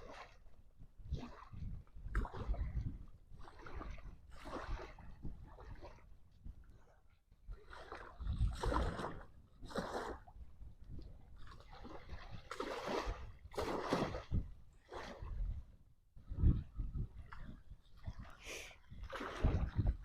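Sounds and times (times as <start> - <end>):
choppy water splashing: 0.0 - 20.0
wind buffeting microphone: 0.7 - 20.0.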